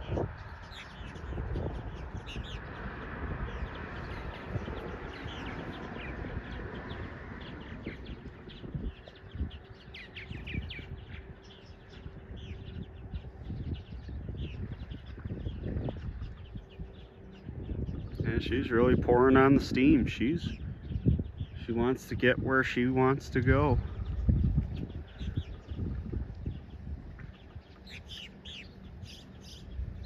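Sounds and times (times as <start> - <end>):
small birds chirping: 0.0 - 30.0
steady low rumble: 0.0 - 30.0.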